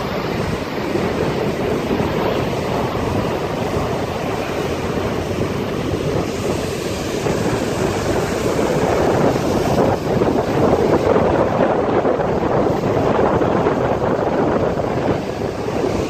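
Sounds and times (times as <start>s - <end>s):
surf breaking and rushing: 0.0s - 16.0s
wind buffeting microphone: 0.0s - 16.0s.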